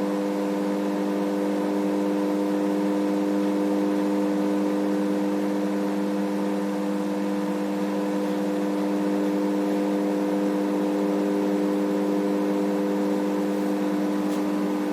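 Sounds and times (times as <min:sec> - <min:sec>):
microwave oven humming: 0:00.0 - 0:14.9.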